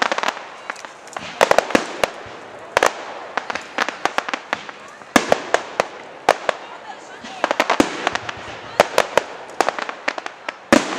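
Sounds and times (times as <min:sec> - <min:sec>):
fireworks cracking and banging: 0:00.0 - 0:10.9.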